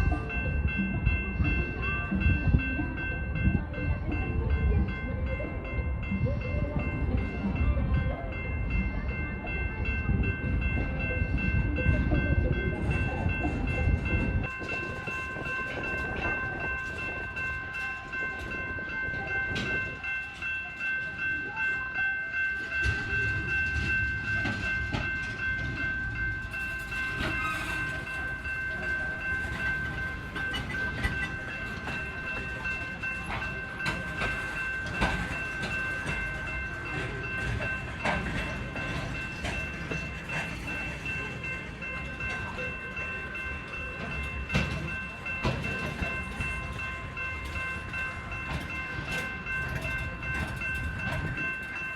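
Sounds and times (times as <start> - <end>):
low train rumble: 0.0 - 51.9.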